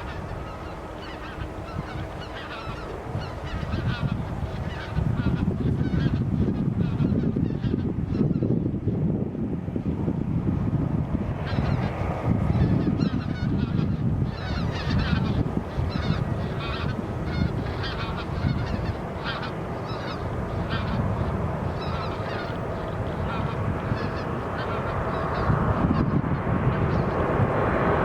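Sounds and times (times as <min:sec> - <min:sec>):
geese honking: 0:00.0 - 0:08.5, 0:11.4 - 0:27.3
low rumble: 0:02.6 - 0:28.0.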